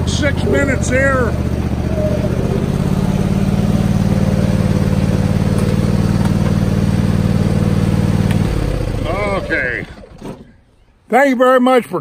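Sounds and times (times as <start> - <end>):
lawn mower engine running: 0.0 - 10.8.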